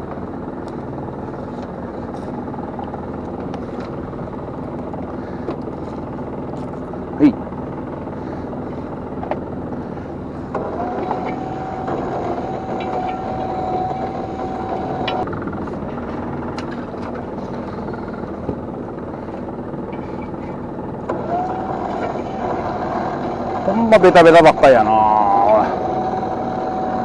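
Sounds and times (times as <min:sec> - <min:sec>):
boat engine running: 0:00.0 - 0:27.0
net hauling gear whine: 0:00.0 - 0:27.0.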